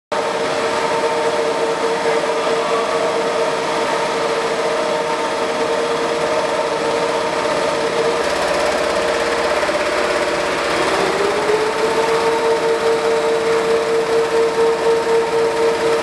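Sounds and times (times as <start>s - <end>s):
production line mechanical hum: 0.2s - 16.0s.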